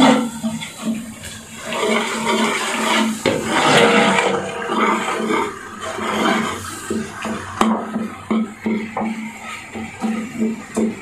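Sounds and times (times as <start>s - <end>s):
masala bubbling and sizzling: 0.0s - 11.0s
metal skimmer sloshing and scraping: 0.0s - 11.0s.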